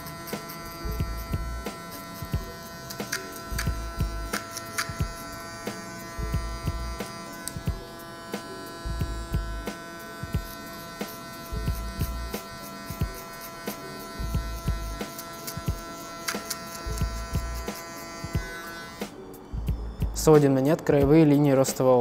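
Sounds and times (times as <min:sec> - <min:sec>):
electric hair clipper buzzing: 0:00.0 - 0:19.4.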